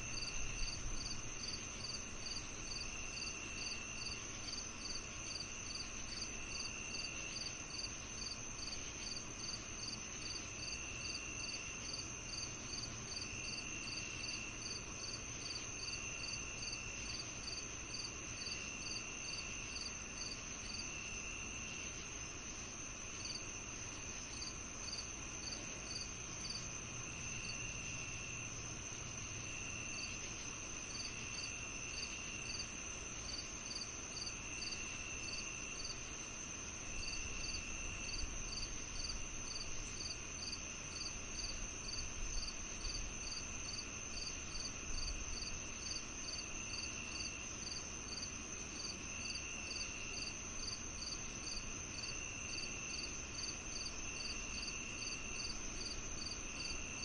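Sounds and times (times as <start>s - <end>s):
crickets trilling: 0.0s - 57.0s
lower insect trill: 0.0s - 57.0s.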